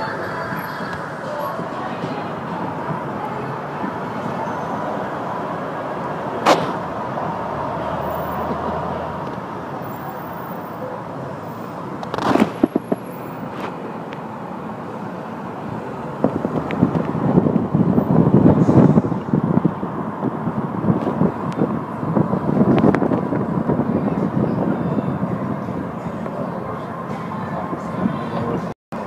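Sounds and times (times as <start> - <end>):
car road noise: 0.0 - 29.0.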